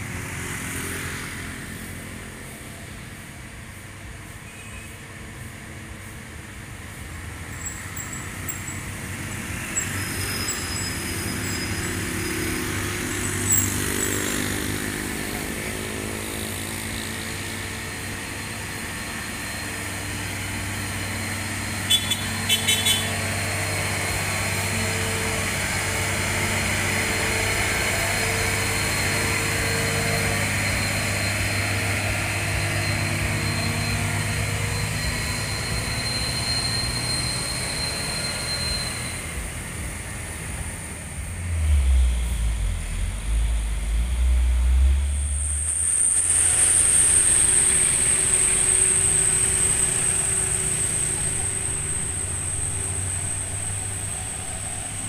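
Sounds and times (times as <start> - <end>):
diesel truck engine under load: 7.1 - 55.0.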